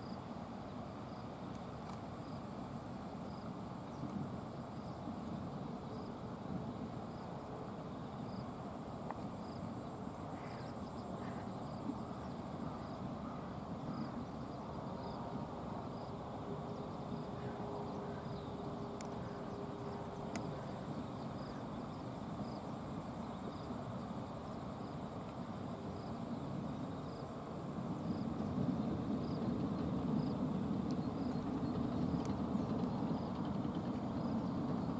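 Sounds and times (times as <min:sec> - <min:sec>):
insect chirping faintly: 0:00.0 - 0:34.9.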